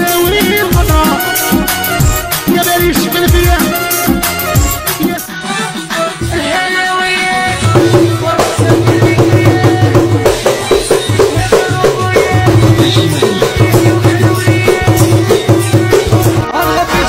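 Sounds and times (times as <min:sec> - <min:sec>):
drums with steady beat: 0:00.0 - 0:17.0.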